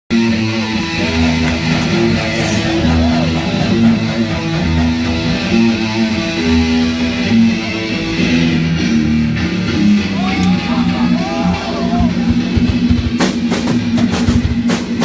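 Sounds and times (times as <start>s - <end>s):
guitars and bass playing: 0.1s - 15.0s.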